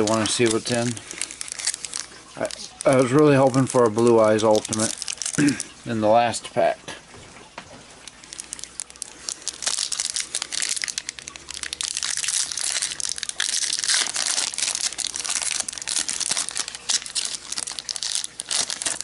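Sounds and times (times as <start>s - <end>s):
foil wrapper crinkling and tearing: 0.0s - 5.8s, 8.0s - 19.0s.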